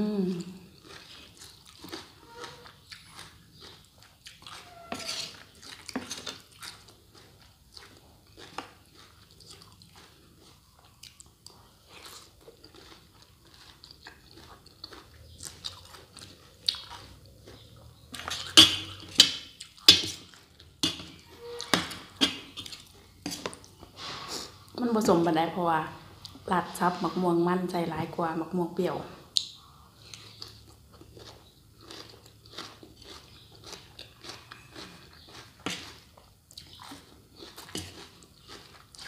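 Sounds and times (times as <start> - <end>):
crunching and chewing salad: 0.2 - 25.3, 29.3 - 39.0.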